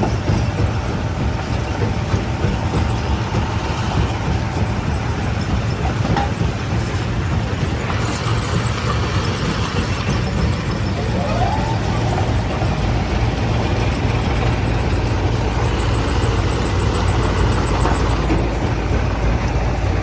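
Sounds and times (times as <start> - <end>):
stone-crushing machinery rumbling: 0.0 - 20.0.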